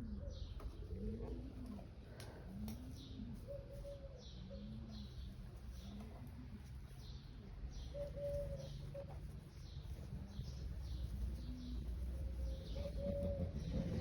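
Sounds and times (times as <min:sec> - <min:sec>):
bird cooing: 0:00.0 - 0:14.0.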